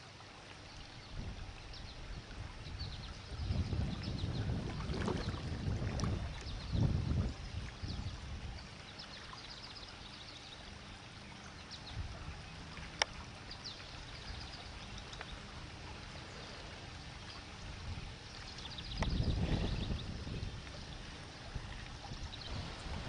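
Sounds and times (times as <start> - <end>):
floodwater flowing: 0.0 - 23.0.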